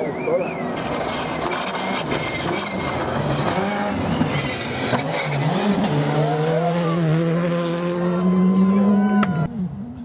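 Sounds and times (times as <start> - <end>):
rally car engine revving: 0.4 - 10.0.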